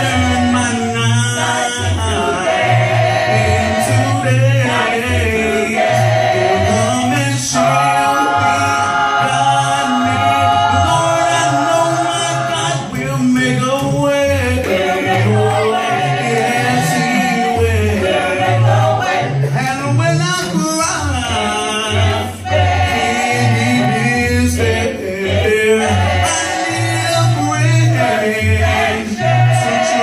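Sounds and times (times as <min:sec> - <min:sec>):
group singing a cappella: 0:00.0 - 0:30.0.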